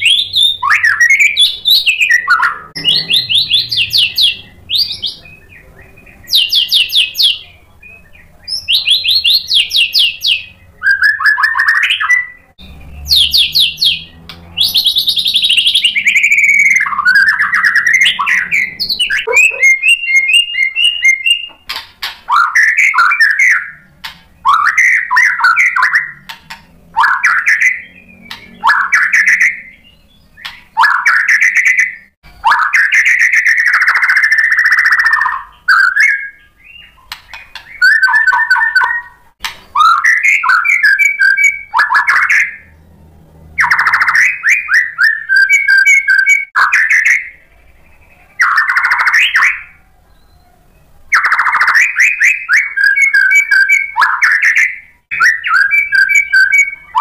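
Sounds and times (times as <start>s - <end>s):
bird singing whistles and trills: 0.0s - 26.4s, 27.0s - 42.8s, 43.6s - 57.0s.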